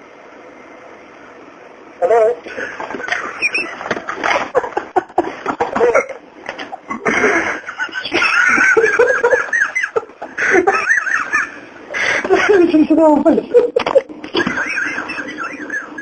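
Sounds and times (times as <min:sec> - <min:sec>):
person laughing: 0:02.4 - 0:16.0.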